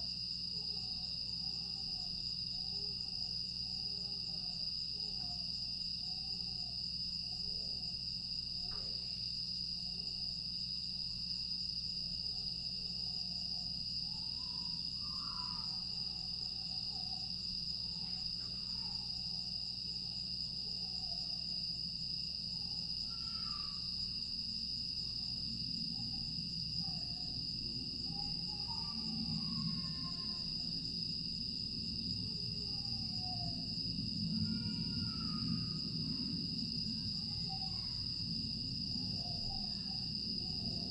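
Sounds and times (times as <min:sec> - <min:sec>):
crickets trilling: 0:00.0 - 0:40.9
faint low insect calls: 0:00.0 - 0:40.9.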